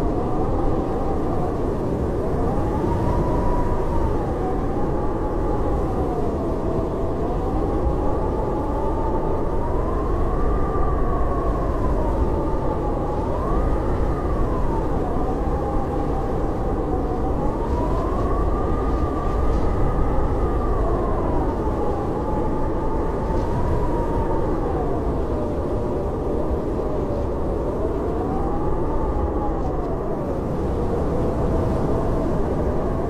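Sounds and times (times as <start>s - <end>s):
howling blizzard wind: 0.0s - 33.0s.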